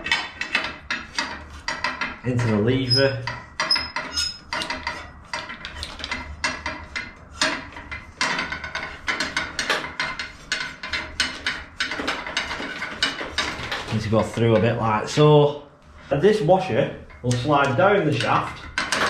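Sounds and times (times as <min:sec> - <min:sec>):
metal rod clicking and rattling: 0:00.0 - 0:14.8, 0:17.0 - 0:19.0.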